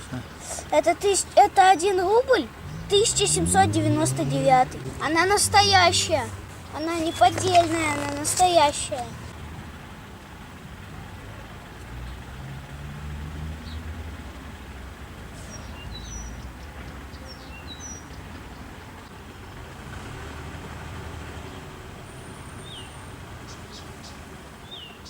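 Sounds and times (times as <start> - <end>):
distant traffic rumble: 0.0 - 25.0.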